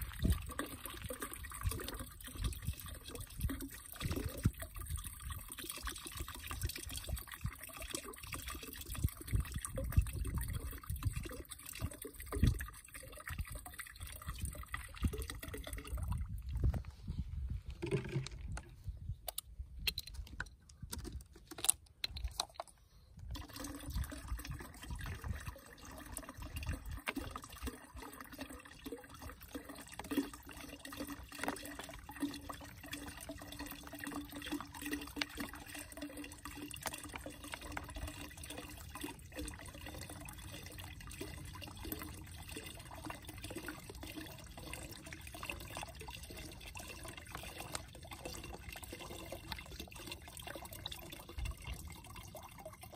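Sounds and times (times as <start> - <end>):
liquid pouring into plastic jug: 0.0 - 18.8, 22.2 - 52.9.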